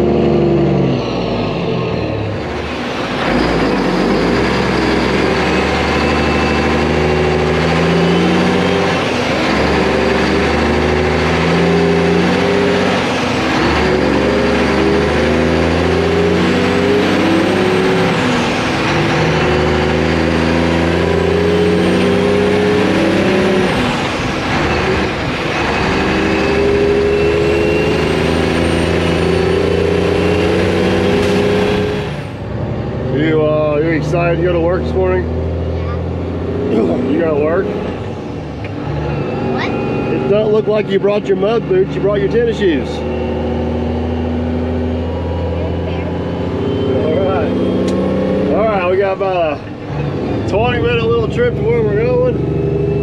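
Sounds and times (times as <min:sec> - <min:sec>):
truck engine accelerating: 0:00.0 - 0:53.0.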